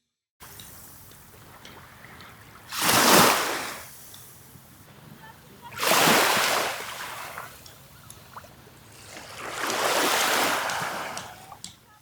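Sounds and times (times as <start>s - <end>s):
sea waves washing onto shore: 0.4s - 12.0s.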